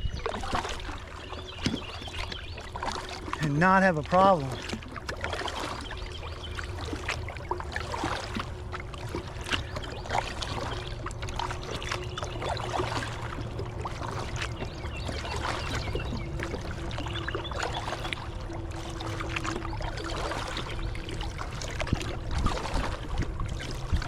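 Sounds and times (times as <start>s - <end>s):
small splashes: 0.0s - 24.0s
water lapping against a kayak hull: 0.0s - 24.0s.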